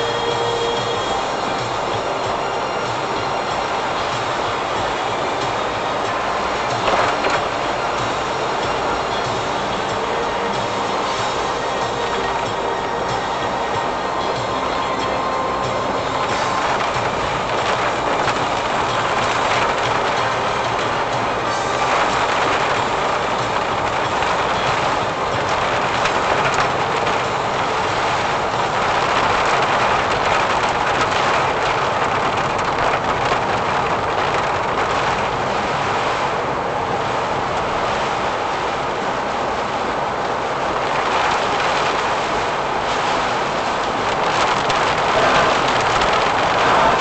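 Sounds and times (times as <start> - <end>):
rain on a car: 0.0 - 47.0
tyres on a waterlogged road: 0.0 - 47.0.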